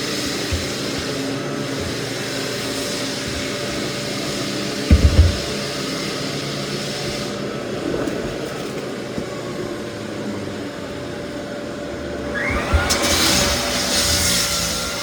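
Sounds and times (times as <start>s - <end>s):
floor sander motor: 0.0s - 15.0s.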